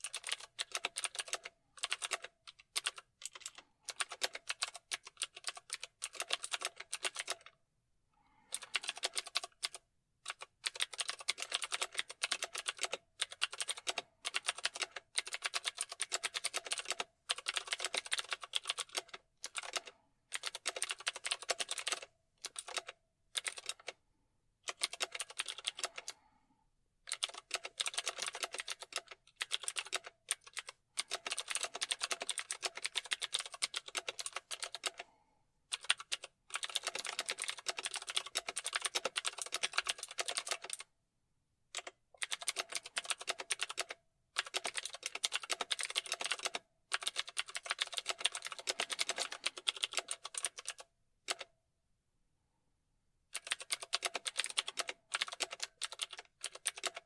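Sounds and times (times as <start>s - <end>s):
typing on computer keyboard: 0.0s - 7.6s, 8.4s - 24.0s, 24.6s - 26.2s, 27.1s - 40.9s, 41.7s - 51.5s, 53.3s - 57.0s.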